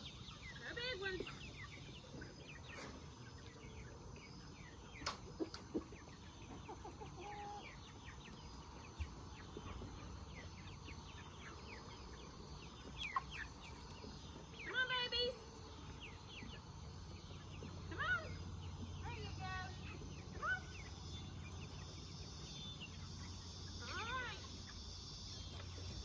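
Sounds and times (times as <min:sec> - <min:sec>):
chickens peeping and clucking: 0:00.0 - 0:26.0.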